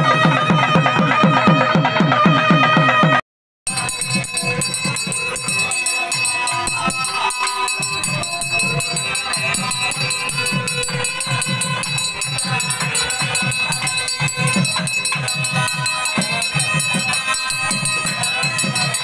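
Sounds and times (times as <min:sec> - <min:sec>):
jingling metal percussion: 0:00.0 - 0:19.0
steady drum beats: 0:00.0 - 0:19.0.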